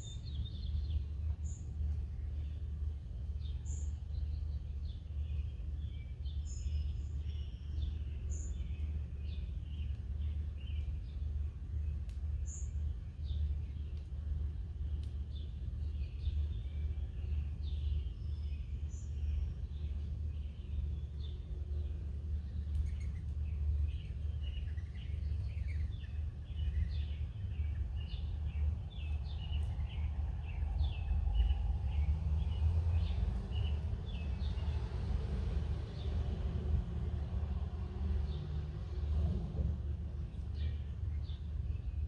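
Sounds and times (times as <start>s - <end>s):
low outdoor rumble: 0.0s - 42.0s
small birds chirping: 0.0s - 42.0s.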